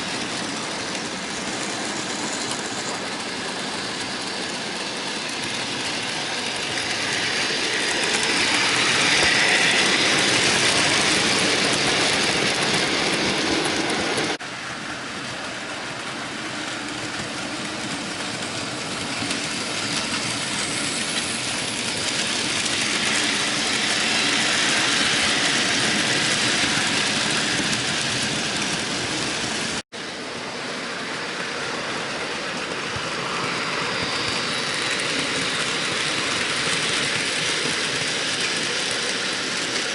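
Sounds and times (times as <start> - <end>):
model train whirring on rails: 0.0 - 39.9.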